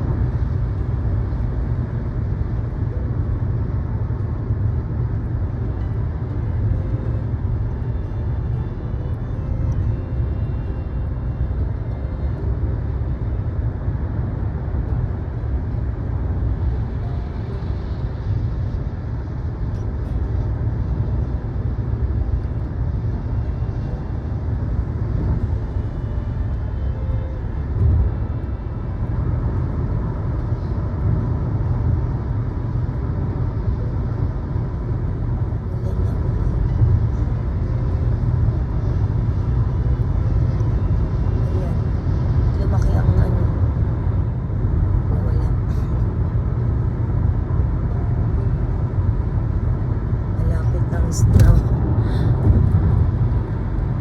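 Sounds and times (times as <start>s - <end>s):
vehicle rumble in motion: 0.0s - 54.0s.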